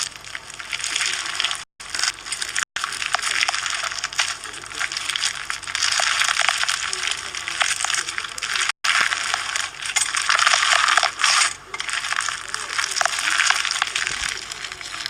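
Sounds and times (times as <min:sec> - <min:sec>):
slime with beads crunching: 0:00.0 - 0:15.0.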